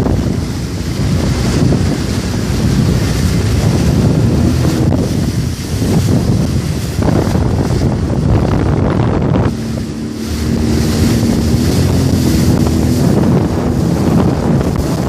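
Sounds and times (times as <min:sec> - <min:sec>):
jet ski engine hum: 0:00.0 - 0:15.0
water splashing: 0:00.0 - 0:15.0
wind buffeting microphone: 0:00.0 - 0:15.0.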